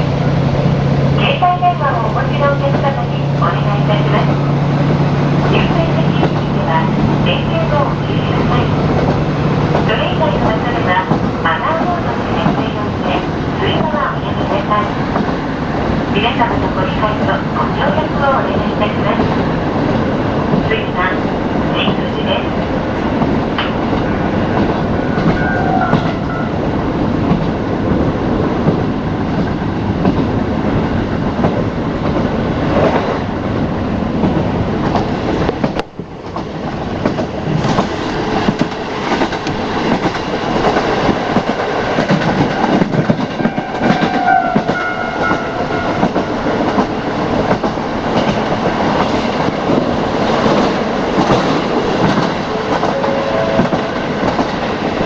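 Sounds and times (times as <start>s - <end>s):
diesel railcar engine: 0.0s - 55.0s.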